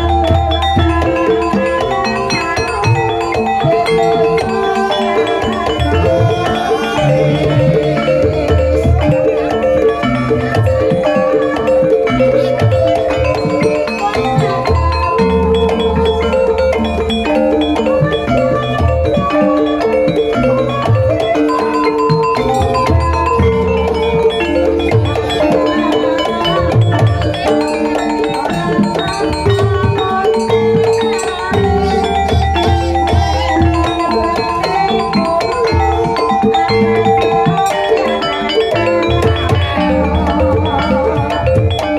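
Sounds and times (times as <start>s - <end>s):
drums: 0.0s - 41.9s
gamelan music: 0.0s - 41.9s
mallet-struck keyed instruments: 0.0s - 41.9s.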